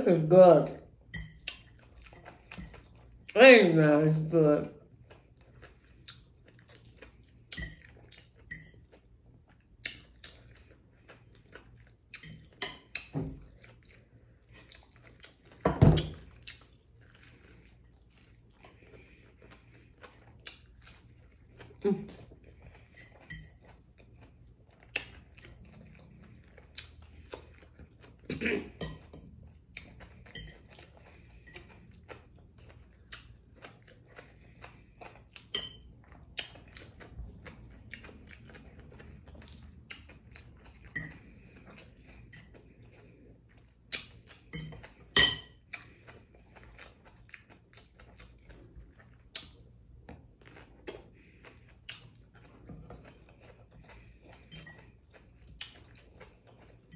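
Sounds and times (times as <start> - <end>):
chewing: 1.0 - 3.4, 4.8 - 56.9.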